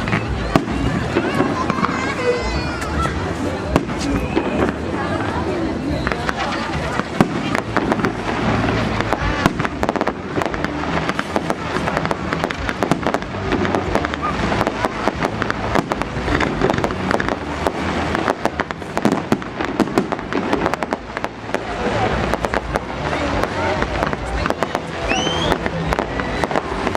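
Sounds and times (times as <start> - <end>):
fireworks bangs and crackles: 0.0 - 26.9.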